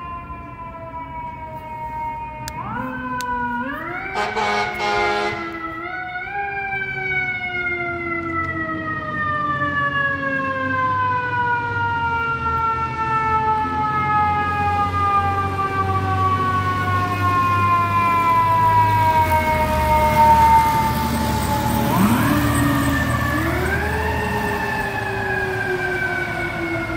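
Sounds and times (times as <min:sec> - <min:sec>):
truck engine rumbling: 0:00.1 - 0:09.5, 0:13.8 - 0:26.9.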